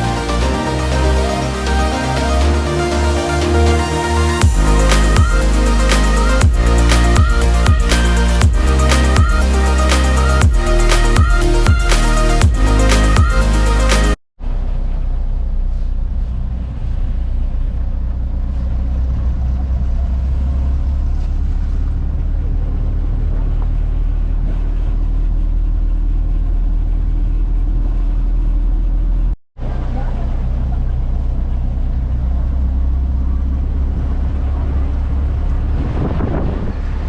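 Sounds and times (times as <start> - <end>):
motor vehicle rumbling: 0.0 - 37.0.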